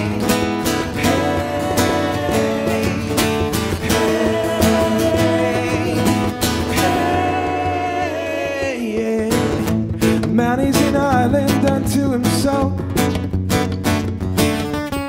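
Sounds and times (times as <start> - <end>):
person singing wordlessly: 0.0 - 12.8
acoustic guitar strumming: 0.0 - 15.0.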